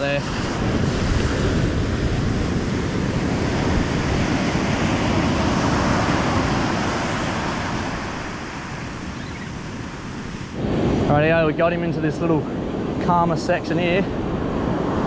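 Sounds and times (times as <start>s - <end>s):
surf breaking on a beach: 0.0s - 15.0s
wind buffeting the microphone: 0.0s - 15.0s.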